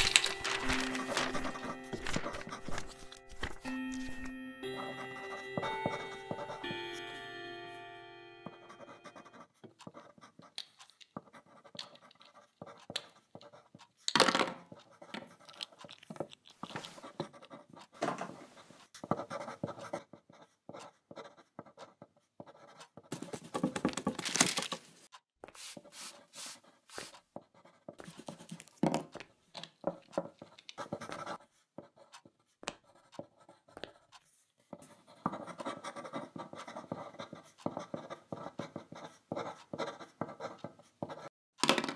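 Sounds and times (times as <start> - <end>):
pencils scratching on paper: 0.0 - 7.8, 8.4 - 14.1, 14.7 - 24.0, 25.4 - 28.8, 29.7 - 41.3.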